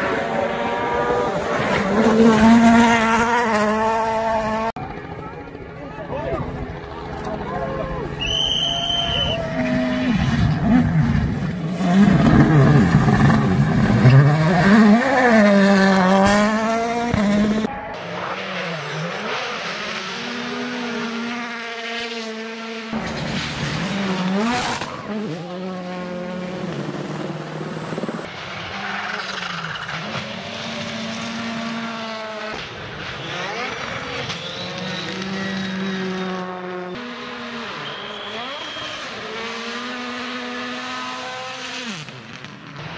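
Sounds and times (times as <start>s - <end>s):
rally car engines at full throttle: 0.0s - 42.9s.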